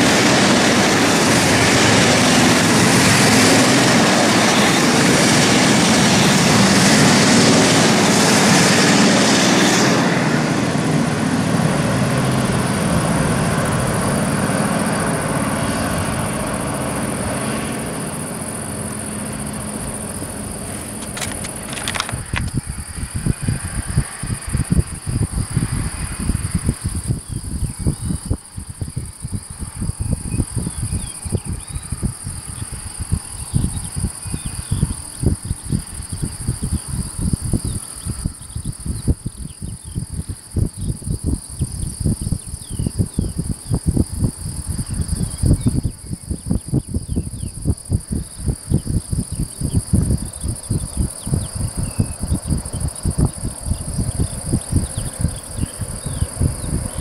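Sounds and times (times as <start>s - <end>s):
crickets chirring: 0.0s - 57.0s
wind buffeting microphone: 0.0s - 57.0s.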